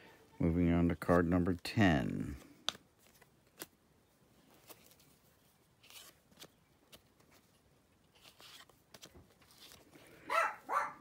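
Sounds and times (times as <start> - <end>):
cards clicking and rustling: 1.0 - 10.3.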